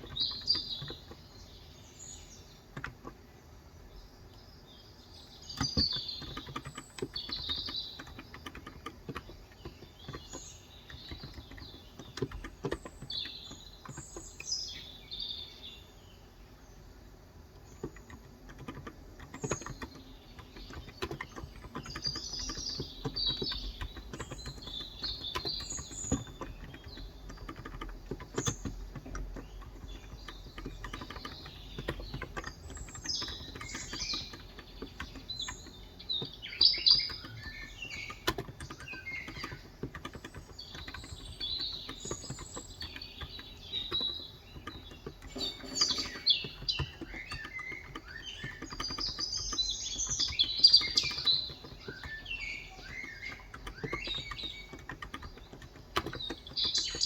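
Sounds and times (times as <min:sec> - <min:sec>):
typing on keyboard: 0:00.0 - 0:03.4, 0:05.2 - 0:15.7, 0:17.3 - 0:57.0
songbirds chirping: 0:00.0 - 0:57.0.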